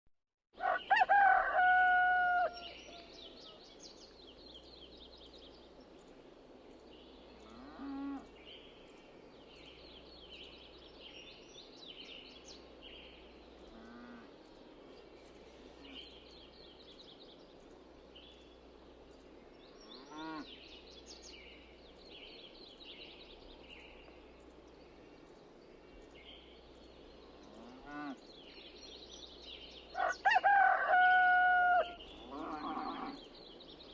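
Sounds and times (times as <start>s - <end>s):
small birds chirping: 2.6s - 33.9s.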